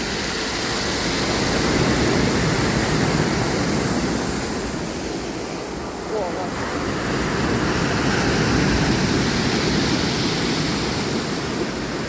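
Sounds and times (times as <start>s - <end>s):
sea waves washing ashore: 0.0s - 12.0s.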